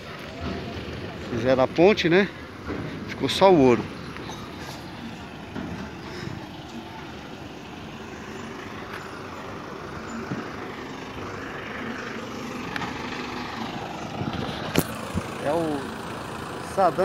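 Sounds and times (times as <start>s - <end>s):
road traffic rumble: 0.0s - 17.0s
vehicle engine running: 0.0s - 17.0s.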